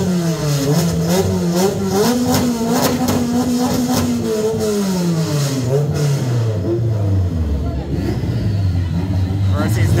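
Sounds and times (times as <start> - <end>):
car engine revving down: 0.0 - 10.0.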